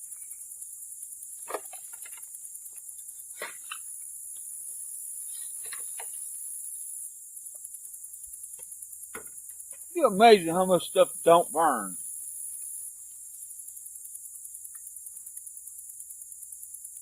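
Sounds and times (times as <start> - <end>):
insect chorus chirring: 0.0 - 17.0.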